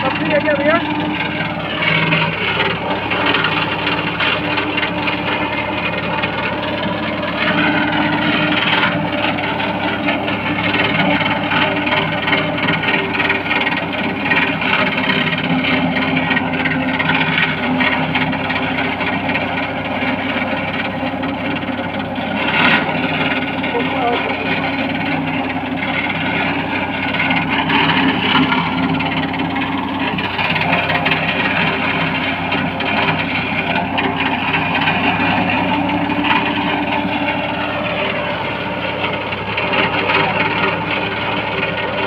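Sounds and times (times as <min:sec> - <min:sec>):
mower cutting grass whir: 0:00.0 - 0:42.0
tractor diesel engine running: 0:00.0 - 0:42.0.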